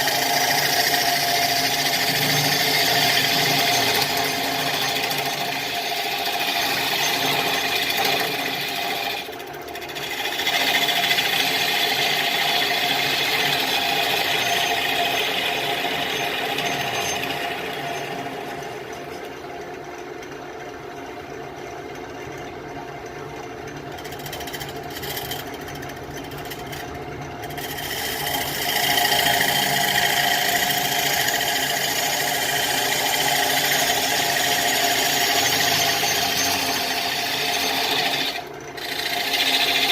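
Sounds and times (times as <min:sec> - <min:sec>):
turning tool scraping wood: 0:00.0 - 0:19.2, 0:23.9 - 0:39.9
lathe motor hum: 0:00.0 - 0:22.0, 0:23.0 - 0:39.9.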